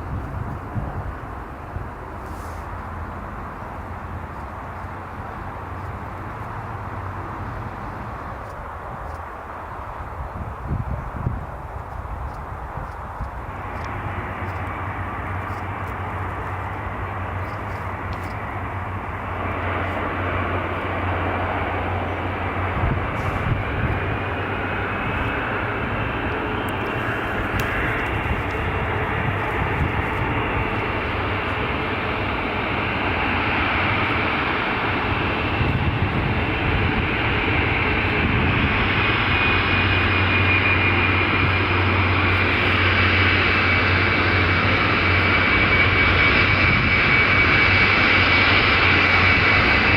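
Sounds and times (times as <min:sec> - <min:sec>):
high engine whine: 0:00.0 - 0:49.9
jet engines running: 0:00.0 - 0:49.9.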